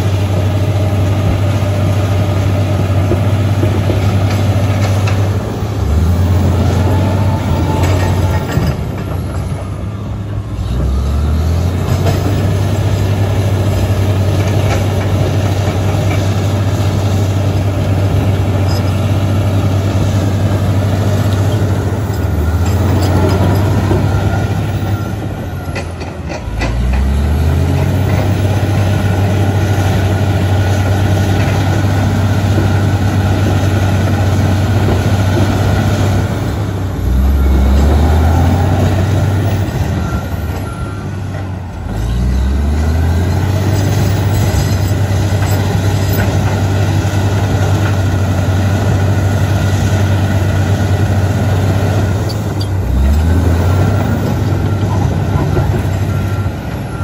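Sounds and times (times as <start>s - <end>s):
bulldozer diesel engine running hard: 0.0s - 57.0s.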